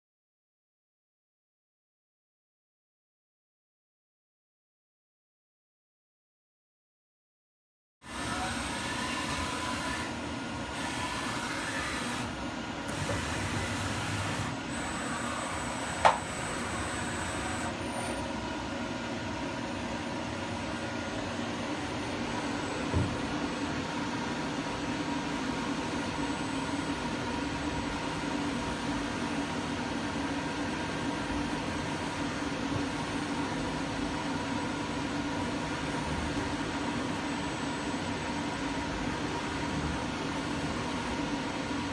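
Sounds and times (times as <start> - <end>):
boring machine humming: 8.1 - 41.9.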